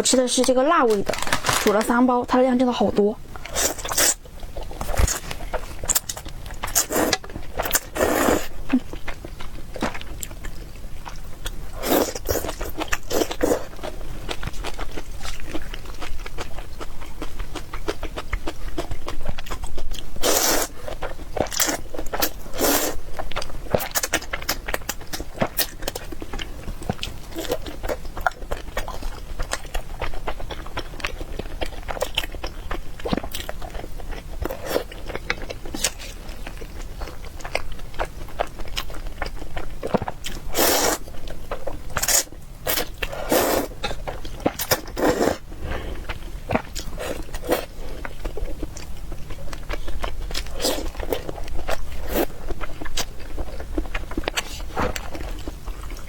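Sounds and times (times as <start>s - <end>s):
chewing and wet mouth noises: 0.1s - 56.0s.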